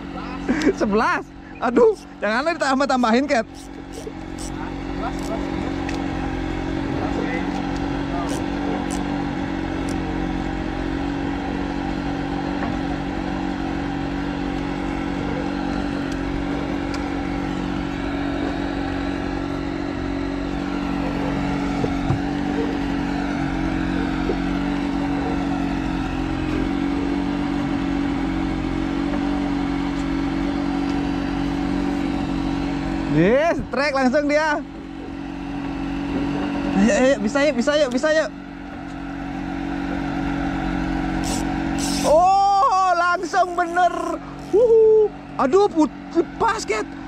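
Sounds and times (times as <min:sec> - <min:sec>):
small engine running steadily: 0:00.0 - 0:47.0.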